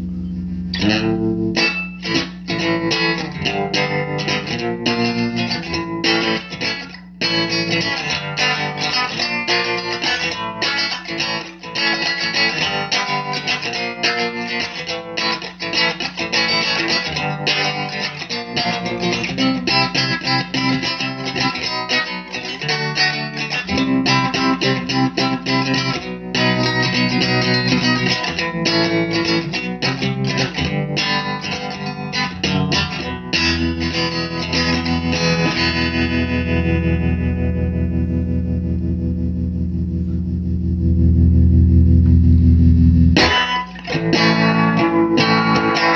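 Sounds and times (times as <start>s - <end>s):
electric guitar through valve amplifier: 0.0s - 45.9s.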